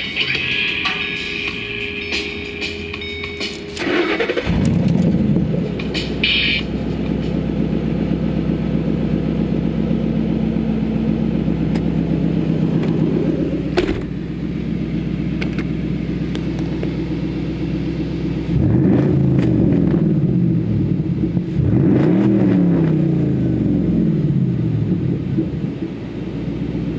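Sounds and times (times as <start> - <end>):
car engine idling: 0.0 - 26.9
engine revving: 0.0 - 26.9.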